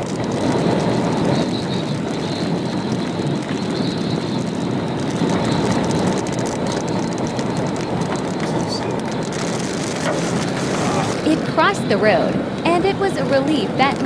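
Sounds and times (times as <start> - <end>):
rain: 0.0 - 14.0
storm wind roaring: 0.0 - 14.0.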